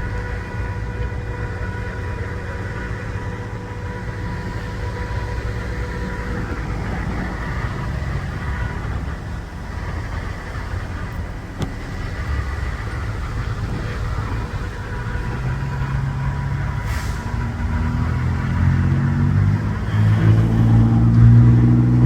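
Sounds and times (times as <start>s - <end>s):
heavy vehicle engine rumbling: 0.0s - 22.0s.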